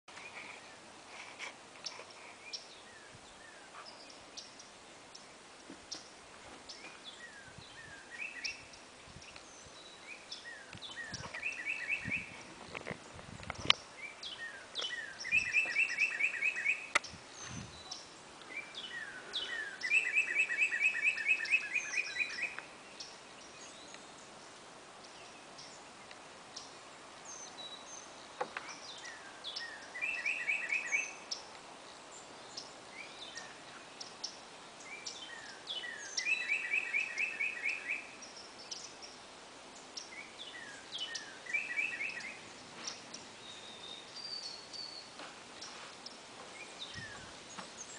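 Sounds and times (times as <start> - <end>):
birds chirping: 0.1 - 47.9.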